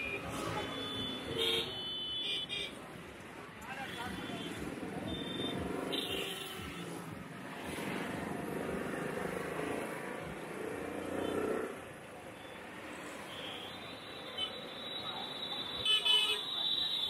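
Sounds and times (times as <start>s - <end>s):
vehicle engines passing: 0.0s - 1.8s, 2.7s - 15.8s.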